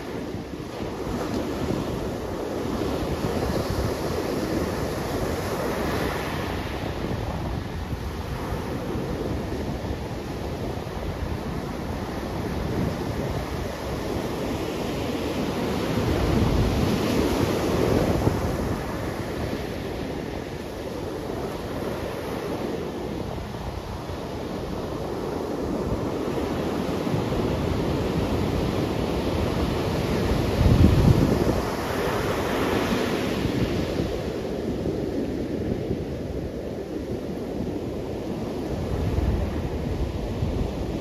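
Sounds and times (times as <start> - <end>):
sea surf breaking on beach: 0.0 - 41.0.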